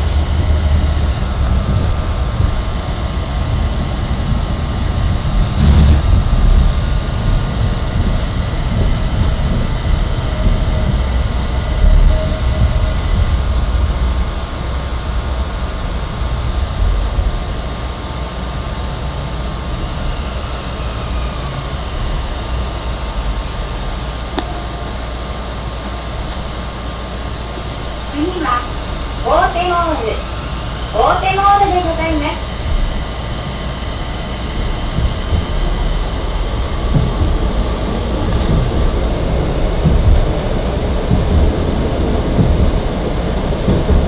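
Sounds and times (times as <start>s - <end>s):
faint steady whine: 0.0s - 44.0s
tram wheels rumbling on rails: 0.0s - 44.0s.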